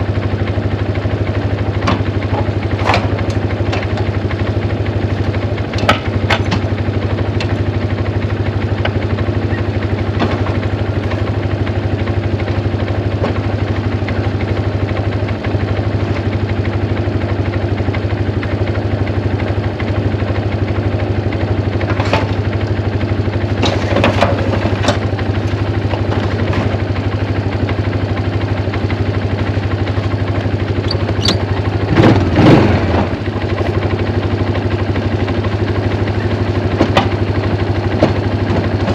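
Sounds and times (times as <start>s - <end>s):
vehicle engine running steadily: 0.0s - 38.9s.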